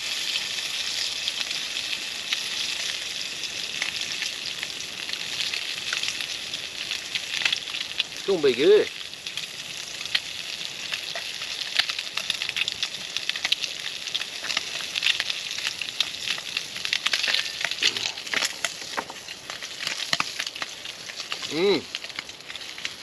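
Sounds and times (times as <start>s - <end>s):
campfire crackling: 0.0s - 23.0s
meat sizzling in a skillet: 0.0s - 23.0s.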